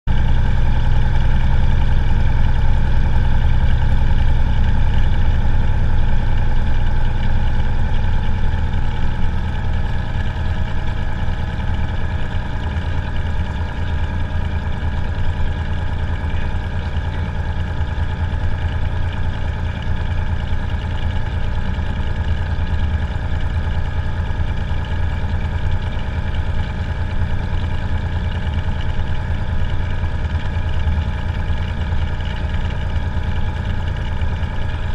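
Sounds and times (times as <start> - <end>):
propeller aircraft engine running: 0.0 - 34.9.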